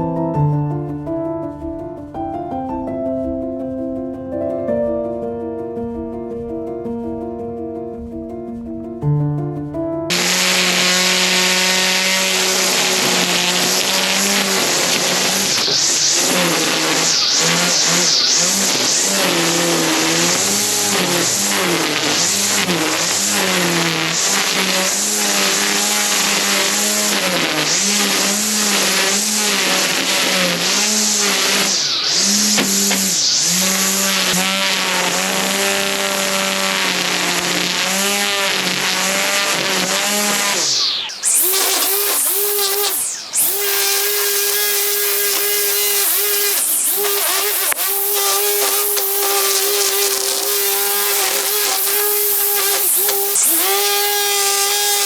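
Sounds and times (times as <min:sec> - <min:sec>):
small petrol engine running: 0:10.1 - 0:55.0.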